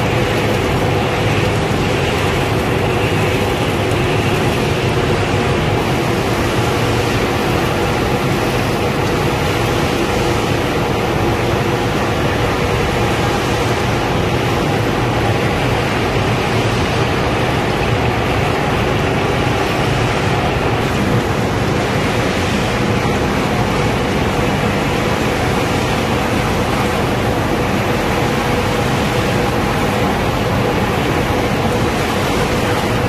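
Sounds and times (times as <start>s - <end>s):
conveyor machine noise: 0.0s - 33.0s
steady hum: 0.0s - 33.0s.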